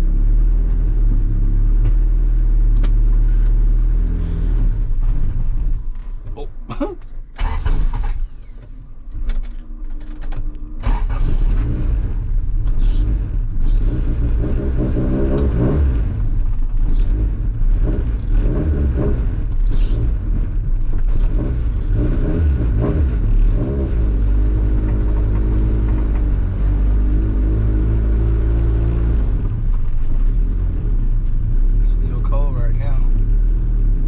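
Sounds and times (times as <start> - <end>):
car engine accelerating: 0.0 - 34.0
road noise inside car: 0.0 - 34.0.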